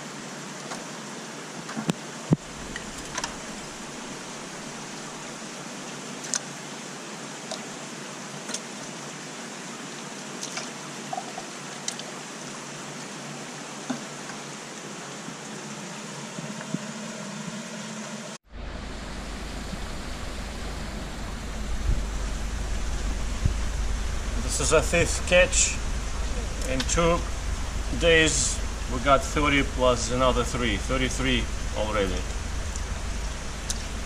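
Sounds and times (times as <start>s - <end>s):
steady rushing hiss: 0.0s - 11.0s, 12.2s - 34.0s.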